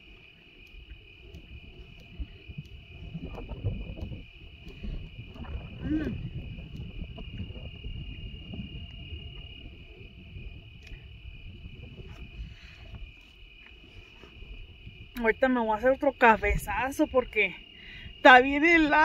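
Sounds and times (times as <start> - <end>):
crickets trilling: 0.0 - 19.0
wind rumbling on microphone: 0.0 - 19.0.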